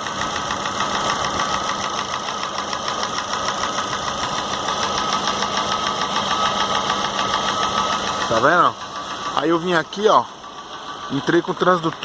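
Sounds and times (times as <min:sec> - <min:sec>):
car engine idling: 0:00.0 - 0:12.0
fast knocking tick: 0:00.1 - 0:12.0.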